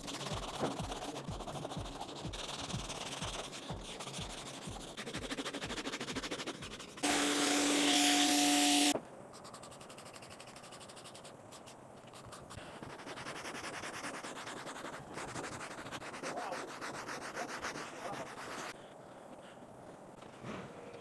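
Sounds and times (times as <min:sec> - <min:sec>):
brush scrubbing: 0:00.0 - 0:07.2, 0:08.4 - 0:18.8.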